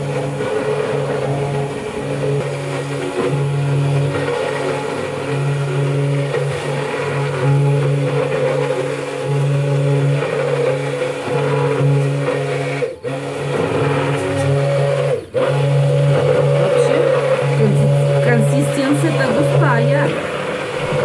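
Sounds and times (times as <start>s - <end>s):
immersion blender running: 0.0s - 21.0s.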